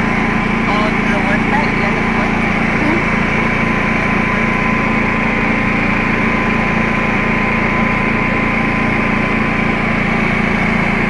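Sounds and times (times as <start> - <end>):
thin steady whine: 0.0 - 10.7
generator engine running: 0.0 - 11.0.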